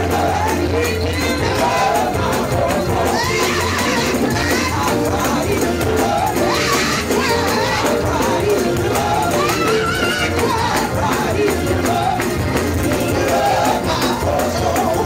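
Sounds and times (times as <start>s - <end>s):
gospel band playing: 0.0s - 15.0s
voices singing and calling out: 0.0s - 15.0s.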